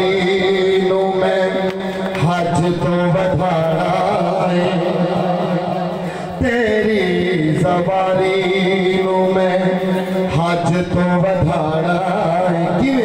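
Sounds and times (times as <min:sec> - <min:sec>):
steady low drone: 0:00.0 - 0:12.9
man chanting through microphone: 0:00.0 - 0:13.0.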